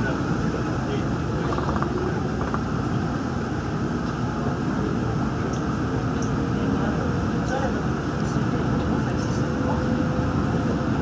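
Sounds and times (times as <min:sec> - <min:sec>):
monorail car rumbling: 0:00.0 - 0:11.0.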